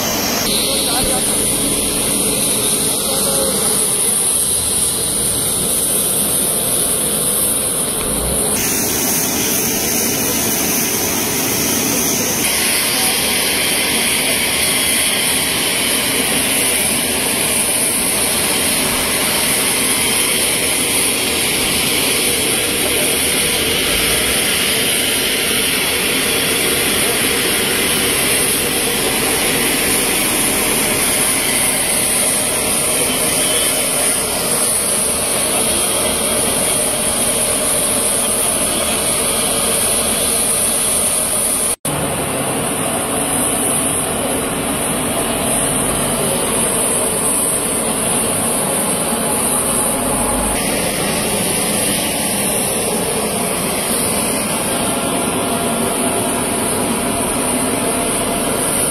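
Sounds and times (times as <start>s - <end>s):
jet turbine whining: 0.0s - 58.9s.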